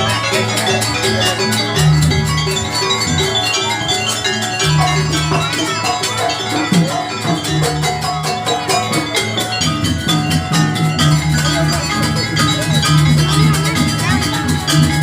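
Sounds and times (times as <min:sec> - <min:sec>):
pitched metal percussion ringing: 0:00.0 - 0:15.0.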